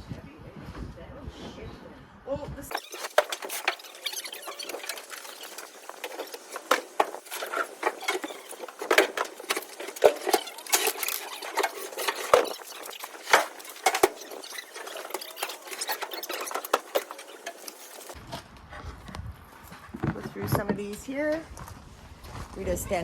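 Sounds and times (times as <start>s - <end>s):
objects rummaged through: 2.7s - 21.5s.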